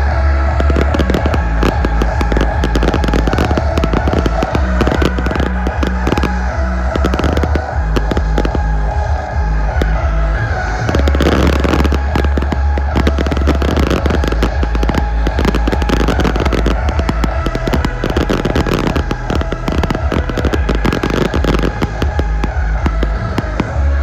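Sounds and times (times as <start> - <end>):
firework bangs and crackles: 0.0 - 24.0
low rumble: 0.0 - 24.0.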